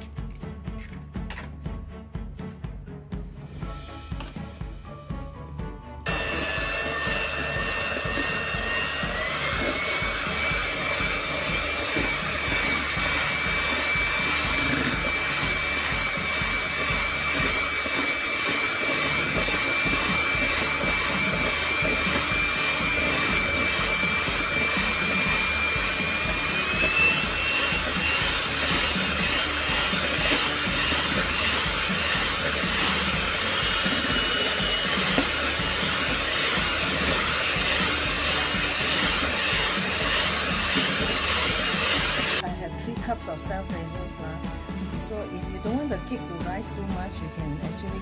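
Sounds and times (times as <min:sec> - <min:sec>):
electric hand mixer whirring: 0:05.6 - 0:48.0.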